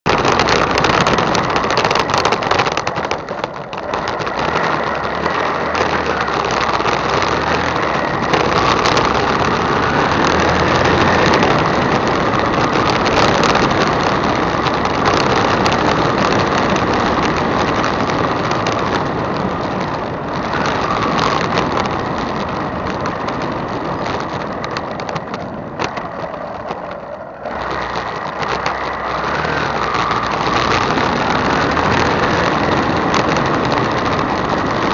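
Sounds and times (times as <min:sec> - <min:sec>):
motorcycle engine running: 0:00.0 - 0:34.9
road and wind noise: 0:00.0 - 0:34.9
rattle over stone paving: 0:00.1 - 0:34.9.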